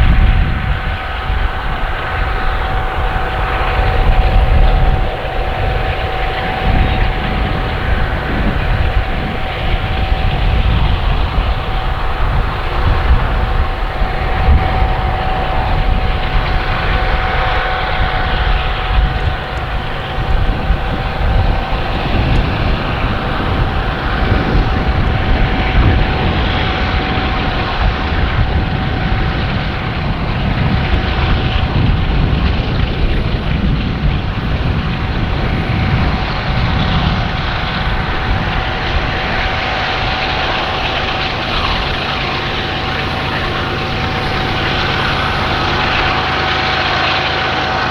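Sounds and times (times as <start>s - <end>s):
diesel locomotive engine drone: 0.0s - 47.9s
high whine: 0.0s - 47.9s.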